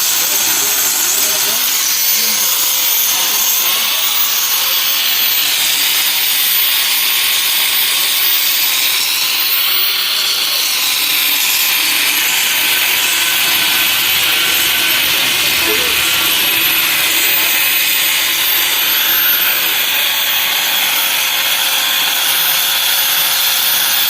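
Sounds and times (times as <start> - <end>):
power tool hissing on steel: 0.0 - 24.0.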